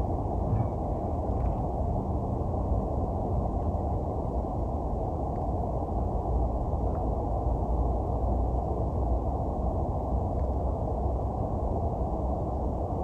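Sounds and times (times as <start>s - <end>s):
low outdoor rumbling: 0.0s - 13.0s.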